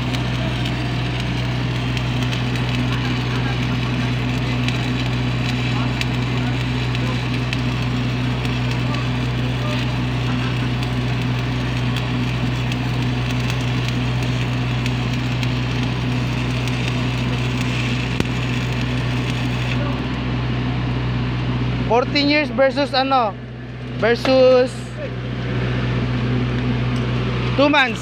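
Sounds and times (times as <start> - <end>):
steady low hum: 0.0 - 28.0
welding arc crackling: 0.0 - 28.0.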